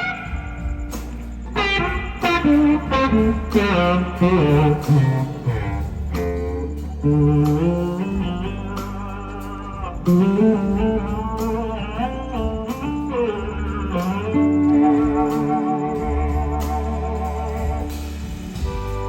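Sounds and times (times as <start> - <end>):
bass guitar: 0.0 - 19.0
drums: 0.0 - 19.0
electric slide guitar solo: 0.0 - 19.0.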